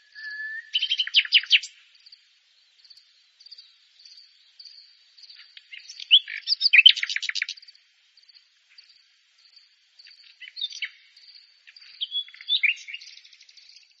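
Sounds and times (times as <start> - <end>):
nightingale singing: 0.0 - 14.0.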